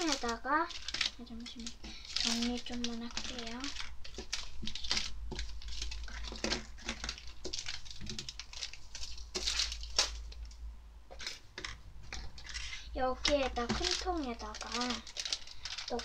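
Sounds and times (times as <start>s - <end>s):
plastic sachets crinkling: 0.0s - 16.0s.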